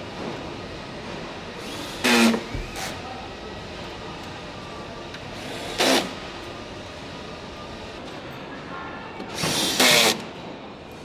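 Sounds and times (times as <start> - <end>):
workshop noise: 0.0 - 11.0.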